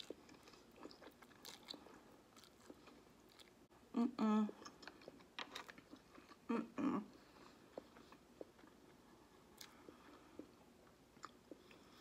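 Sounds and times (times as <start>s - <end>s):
person chewing noodles: 0.0s - 3.6s, 4.6s - 6.5s, 7.1s - 12.0s.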